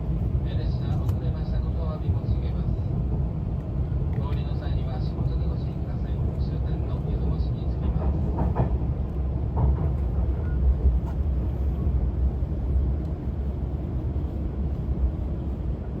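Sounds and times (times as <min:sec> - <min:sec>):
electric train rumble inside car: 0:00.0 - 0:16.0.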